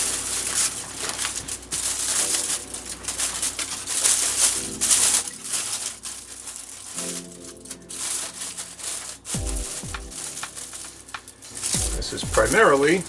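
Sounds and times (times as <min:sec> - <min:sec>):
paper crumpling: 0:00.0 - 0:13.0.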